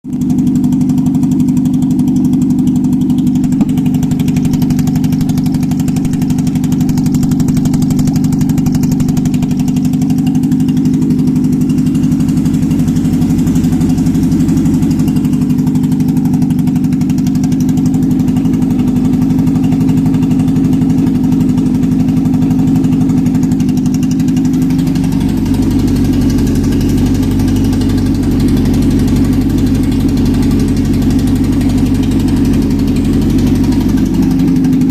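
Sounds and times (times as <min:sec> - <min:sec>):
petrol engine idling: 0:00.2 - 0:34.9.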